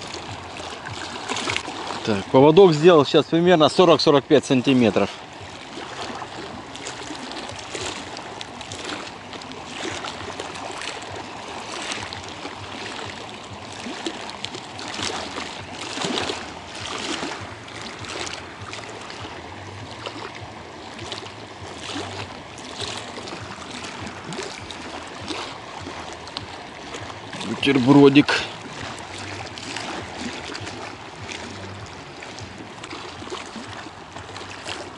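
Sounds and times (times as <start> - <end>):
small waves lapping against concrete: 0.0 - 34.9.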